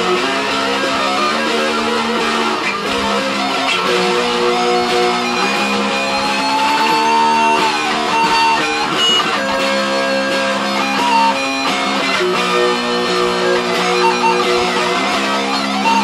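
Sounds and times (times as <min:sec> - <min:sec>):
electric guitar chords and melody: 0:00.0 - 0:16.0.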